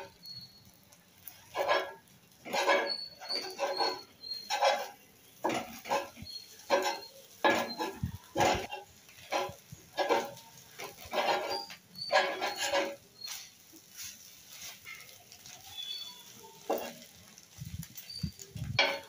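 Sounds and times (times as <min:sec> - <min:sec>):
metal spatula scraping on iron pan: 0:00.0 - 0:19.0.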